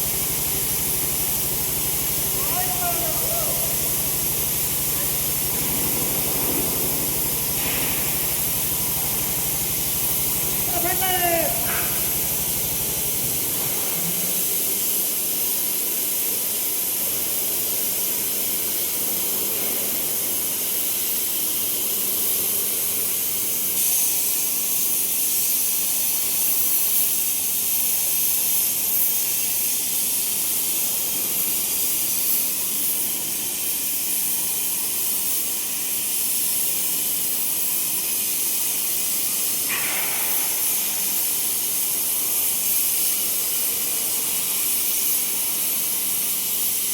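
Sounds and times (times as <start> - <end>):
cutting torch hissing: 0.0 - 46.9.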